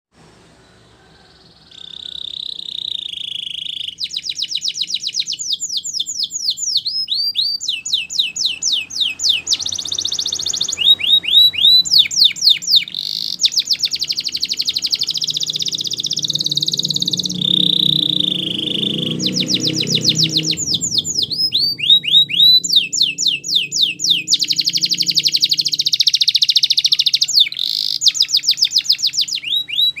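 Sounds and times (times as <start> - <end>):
bird fast high chattering: 1.7 - 30.0.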